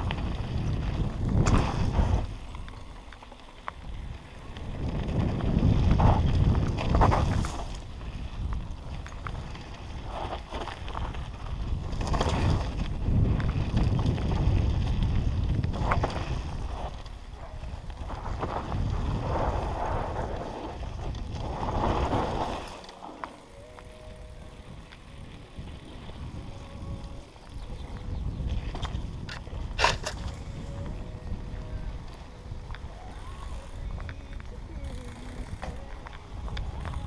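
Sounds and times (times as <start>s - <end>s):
wind buffeting microphone: 0.0s - 22.8s, 23.4s - 37.0s
bike rattling over bumps: 0.0s - 37.0s
tyres rolling over gravel: 0.0s - 37.0s.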